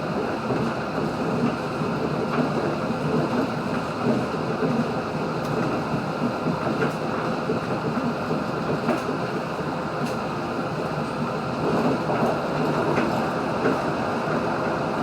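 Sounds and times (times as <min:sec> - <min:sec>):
railcar running noise: 0:00.0 - 0:15.0.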